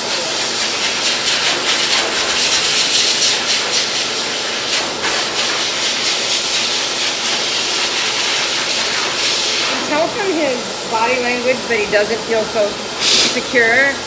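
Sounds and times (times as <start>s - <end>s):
dryer blowing air: 0.0s - 14.0s.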